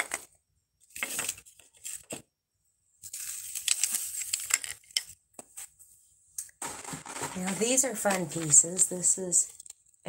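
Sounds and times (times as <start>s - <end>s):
crinkly rustling of handled pieces: 0.0s - 2.3s, 3.0s - 5.7s, 6.6s - 10.0s.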